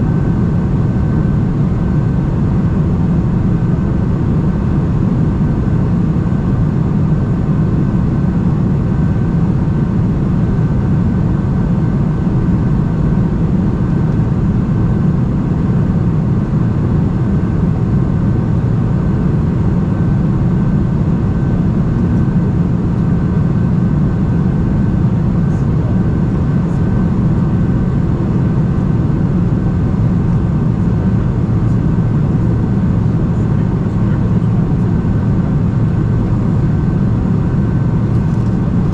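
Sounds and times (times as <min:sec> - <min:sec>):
airplane cabin drone: 0:00.0 - 0:38.9
thin steady whine: 0:00.0 - 0:38.9.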